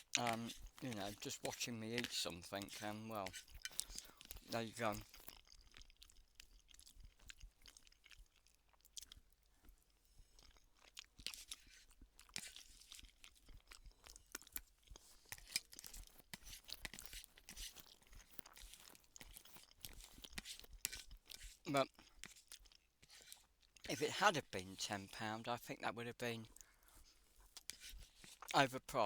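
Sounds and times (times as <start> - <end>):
person chewing food: 0.0 - 24.0, 26.4 - 28.6.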